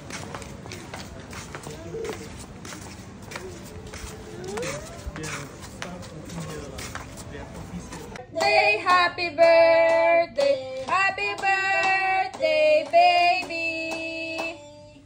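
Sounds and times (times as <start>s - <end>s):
light steady beat: 0.0s - 14.7s.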